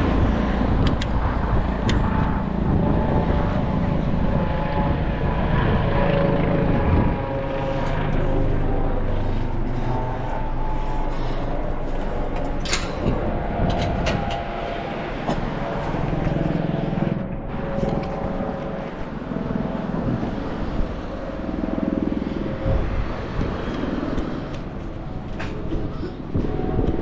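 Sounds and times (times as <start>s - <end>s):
traffic passing: 0.0s - 27.0s.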